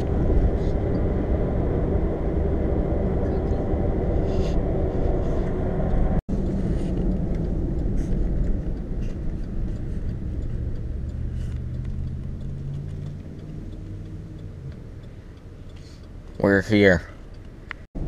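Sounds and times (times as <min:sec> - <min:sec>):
car cabin road and engine rumble: 0:00.0 - 0:18.0.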